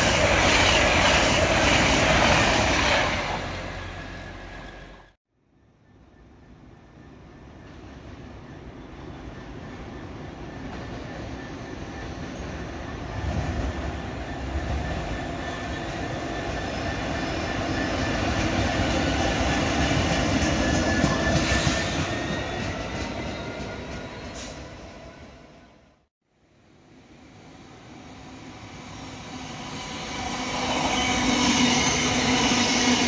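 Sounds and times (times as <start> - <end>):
diesel locomotive passing: 0.0 - 5.2, 7.0 - 26.0, 27.2 - 33.0.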